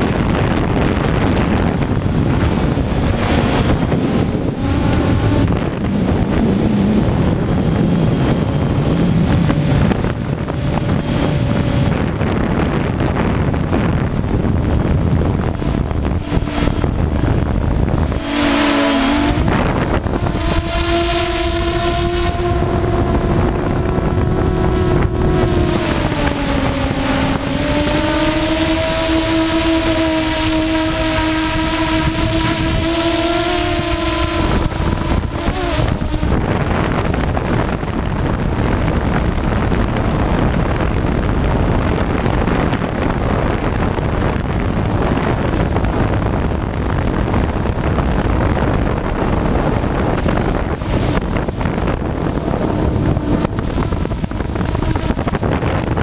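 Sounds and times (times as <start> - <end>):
drone propellers humming: 0.0 - 56.0
wind buffeting microphone: 0.0 - 56.0.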